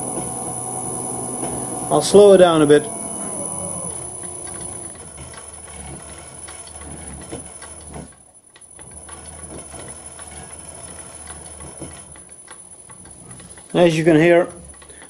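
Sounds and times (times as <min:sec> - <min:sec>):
lathe motor humming: 0:00.0 - 0:08.2, 0:08.8 - 0:15.0
light regular ticking: 0:00.0 - 0:15.0.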